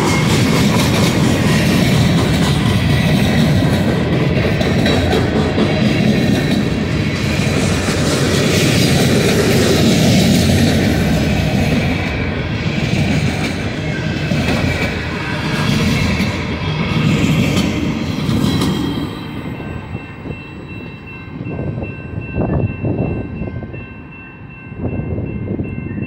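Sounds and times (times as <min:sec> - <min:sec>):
train wheels clattering on rails: 0:00.0 - 0:23.2.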